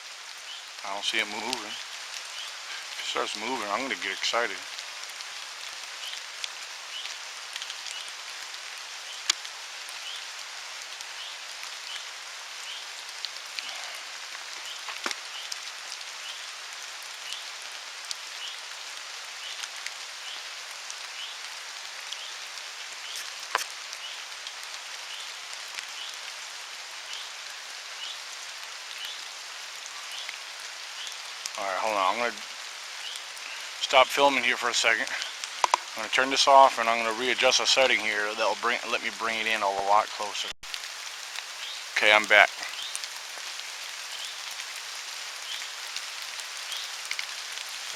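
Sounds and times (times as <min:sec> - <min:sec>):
single raindrops striking close: 0:00.0 - 0:37.0, 0:40.6 - 0:47.9
steady rain falling: 0:00.0 - 0:47.9.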